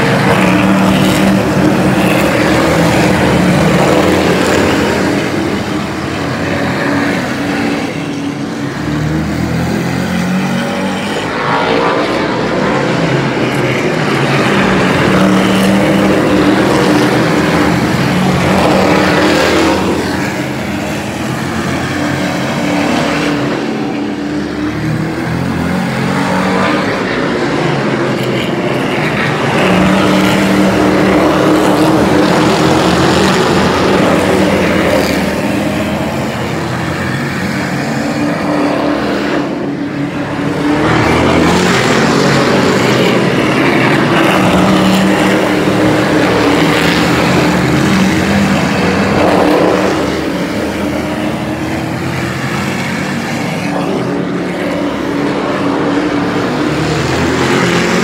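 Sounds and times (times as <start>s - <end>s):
racing truck engines: 0.0s - 58.0s.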